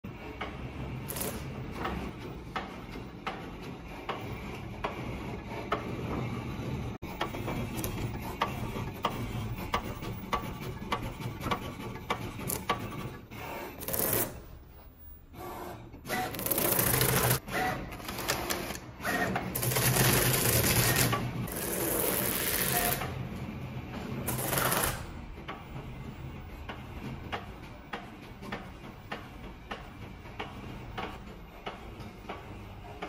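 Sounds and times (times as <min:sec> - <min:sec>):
machine rollers humming: 0:00.1 - 0:33.0.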